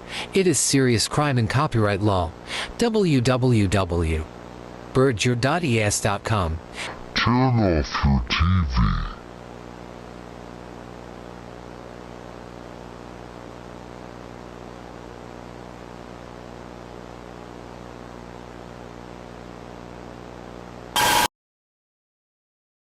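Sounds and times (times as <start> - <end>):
electrical hum: 0.0 - 21.3.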